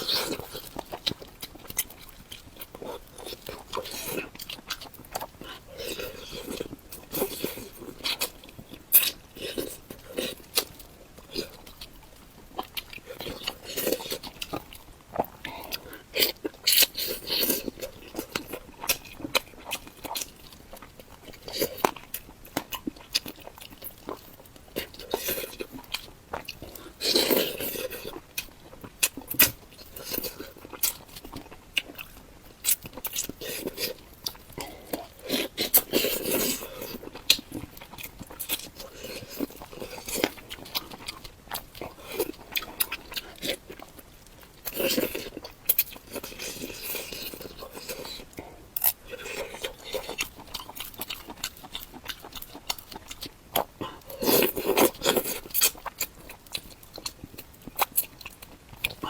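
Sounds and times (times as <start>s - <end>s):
chewing and wet smacking: 0.0s - 59.0s.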